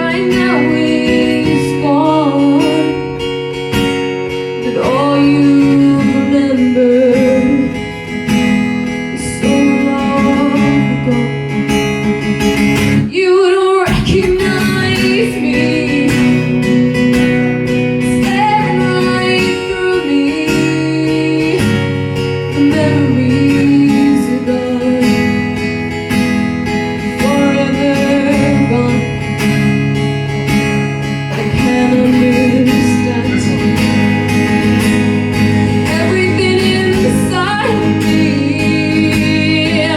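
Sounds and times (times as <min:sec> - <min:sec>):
person singing: 0:00.0 - 0:03.5, 0:04.4 - 0:07.9, 0:09.1 - 0:11.7, 0:13.0 - 0:17.0, 0:18.0 - 0:25.5, 0:27.0 - 0:29.6, 0:31.0 - 0:39.9
acoustic guitar: 0:00.0 - 0:39.9.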